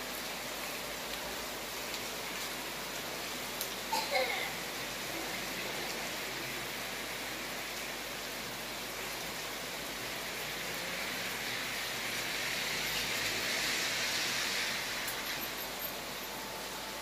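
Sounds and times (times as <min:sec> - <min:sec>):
heavy rain on wet street: 0:00.0 - 0:17.0.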